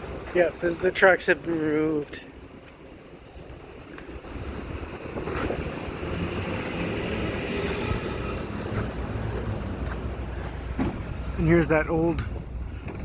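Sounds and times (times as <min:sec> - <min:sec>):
motor vehicle running: 0:00.0 - 0:13.0.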